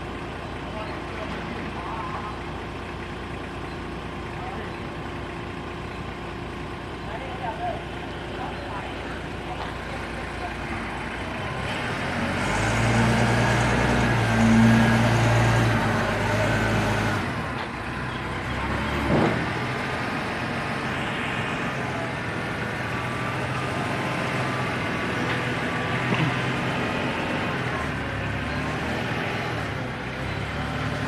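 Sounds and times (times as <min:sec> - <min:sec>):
forklift engine running: 0:00.0 - 0:31.0.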